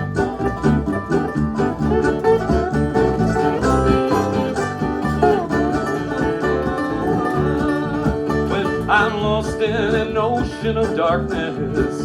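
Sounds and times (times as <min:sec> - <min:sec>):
banjo: 0:00.0 - 0:12.0
bluegrass band playing: 0:00.0 - 0:12.0
stepping bass line: 0:00.0 - 0:12.0.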